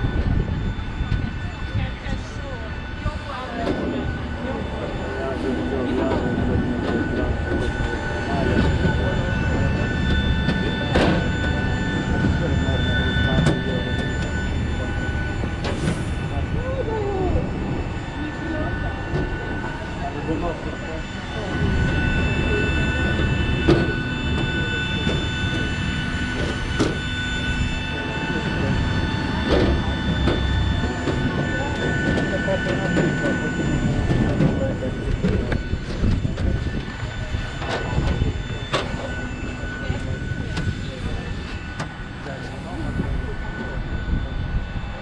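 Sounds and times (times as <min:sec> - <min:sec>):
aircraft ground machinery drone: 0:00.0 - 0:45.0
faint voices: 0:00.0 - 0:45.0
high whining tones: 0:00.0 - 0:45.0.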